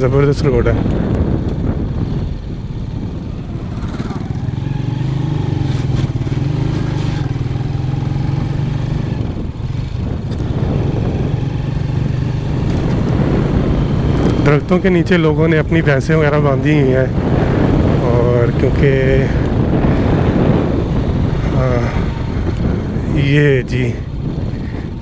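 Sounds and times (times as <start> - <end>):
small motorcycle engine running: 0.2 - 25.0.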